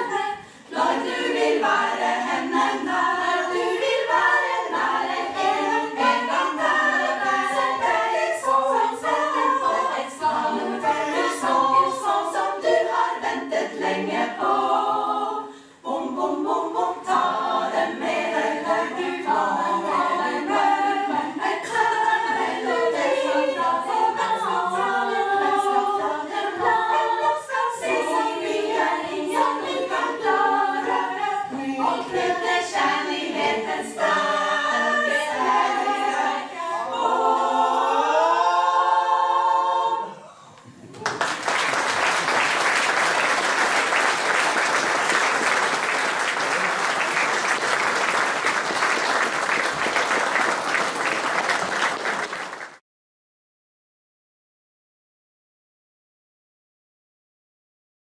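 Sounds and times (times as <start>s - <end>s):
women's choir singing: 0.0s - 40.5s, 41.3s - 52.2s.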